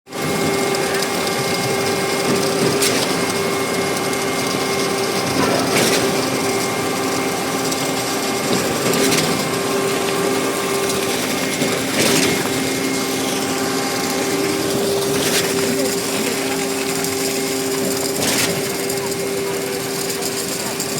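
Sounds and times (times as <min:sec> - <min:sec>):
concrete pump running: 0:00.1 - 0:20.9.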